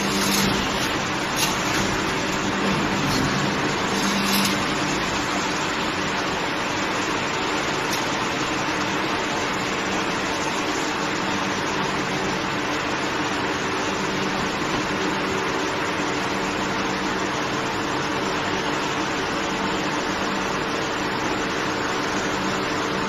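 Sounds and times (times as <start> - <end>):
hydraulic unit hissing and humming: 0.0 - 23.0.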